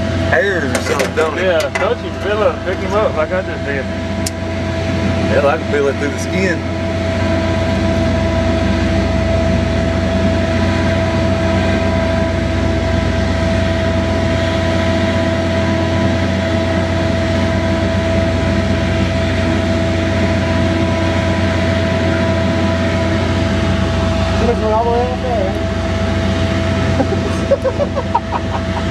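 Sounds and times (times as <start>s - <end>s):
machine humming with high whine: 0.0s - 28.9s.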